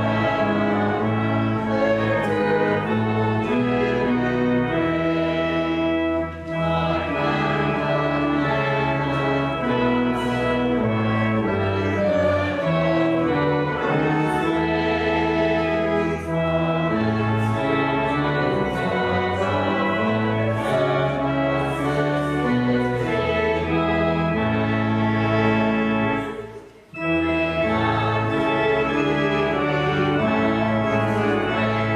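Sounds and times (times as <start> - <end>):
organ playing chords: 0.0 - 31.9.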